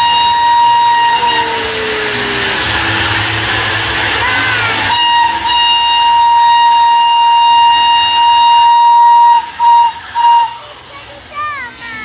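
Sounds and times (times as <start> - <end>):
steam locomotive whistle: 0.0 - 10.9.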